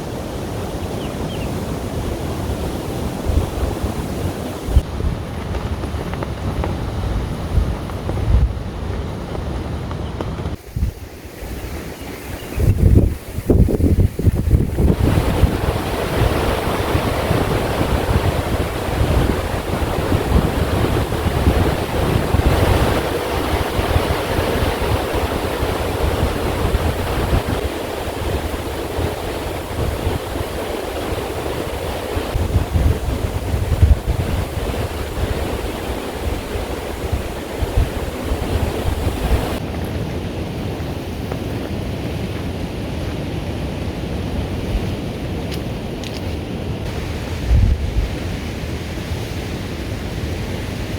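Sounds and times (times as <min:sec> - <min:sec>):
wind blowing across microphone: 0:00.0 - 0:50.9.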